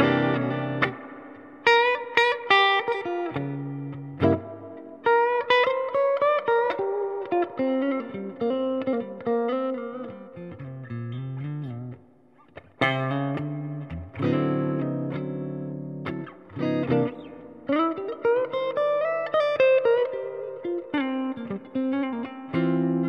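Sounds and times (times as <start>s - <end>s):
electric guitar single notes: 0.0s - 12.0s, 12.6s - 23.0s
electric guitar chords ringing: 0.0s - 23.0s.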